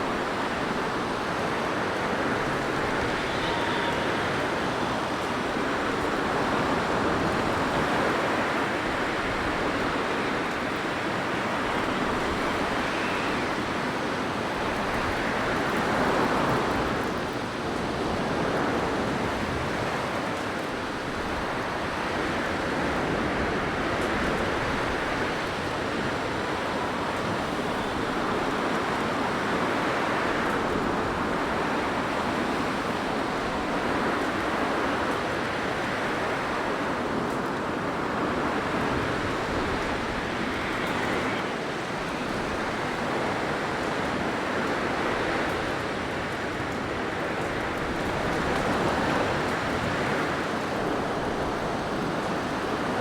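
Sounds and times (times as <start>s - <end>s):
blizzard wind rushing: 0.0s - 53.0s.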